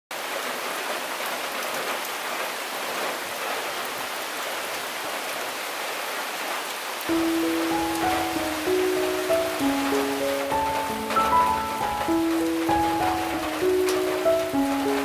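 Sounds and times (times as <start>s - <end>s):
heavy rain: 0.1s - 15.0s
water dripping off roof: 0.2s - 15.0s.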